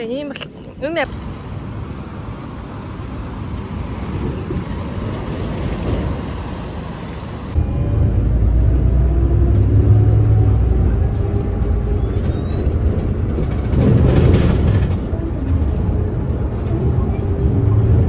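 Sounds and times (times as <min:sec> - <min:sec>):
bus engine rumble: 0:00.0 - 0:18.0
road noise: 0:00.0 - 0:18.0.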